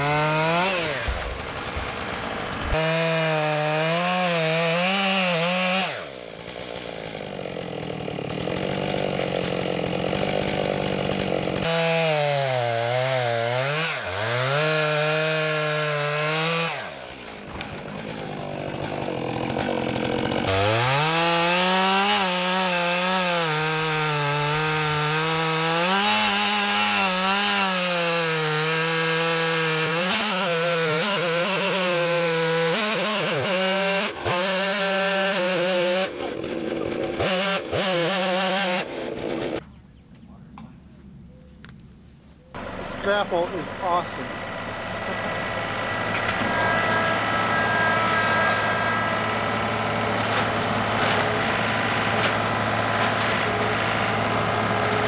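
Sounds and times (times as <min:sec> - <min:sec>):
chainsaw cutting wood: 0:00.0 - 0:39.6, 0:42.6 - 0:55.0.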